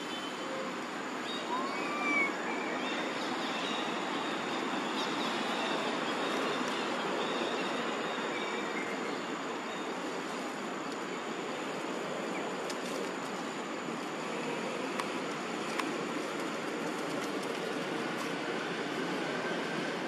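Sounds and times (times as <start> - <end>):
steady rushing background noise: 0.0 - 20.0.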